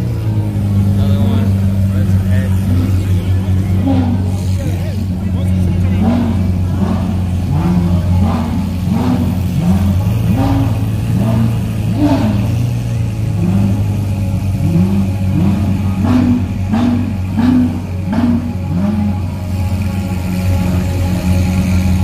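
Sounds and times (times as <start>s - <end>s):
car engine revving in blips: 0.0s - 22.0s
engines idling: 0.0s - 22.0s.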